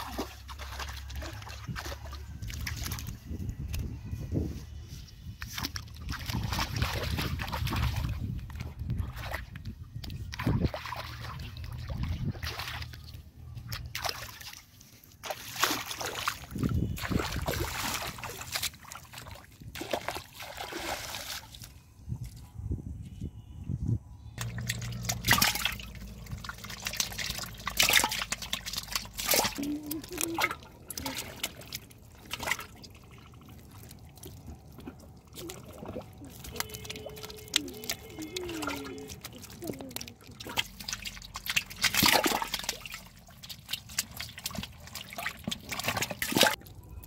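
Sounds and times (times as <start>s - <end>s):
feet splashing through muddy water: 0.0s - 3.8s, 5.3s - 21.8s, 24.4s - 47.0s
fish flopping on wet mud: 5.3s - 21.8s, 24.4s - 46.8s.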